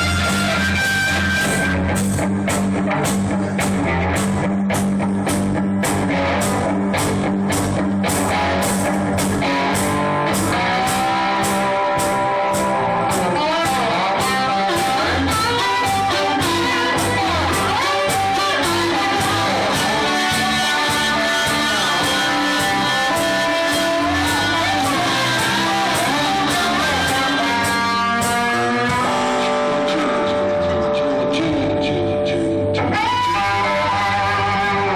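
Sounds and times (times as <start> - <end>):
steady drum beat: 0.0 - 29.7
electric guitar: 0.0 - 34.9.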